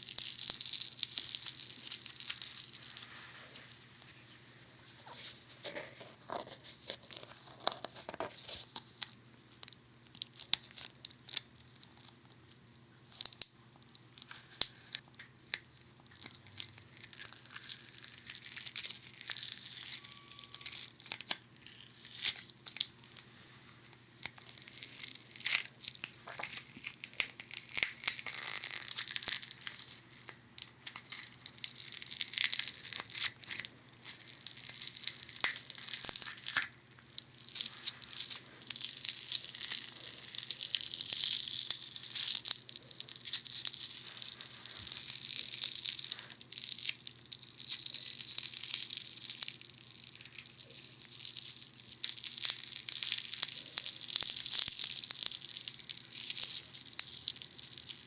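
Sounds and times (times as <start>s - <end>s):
foaming soap crackling and popping: 0.0s - 4.4s, 5.0s - 58.0s.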